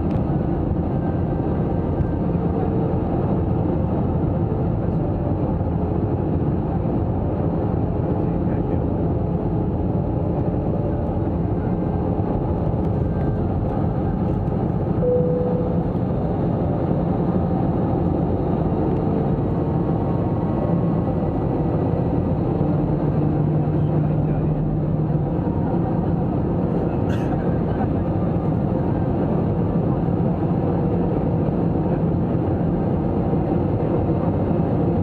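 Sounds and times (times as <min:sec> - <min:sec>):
airliner cabin engine and airflow noise: 0:00.0 - 0:35.0.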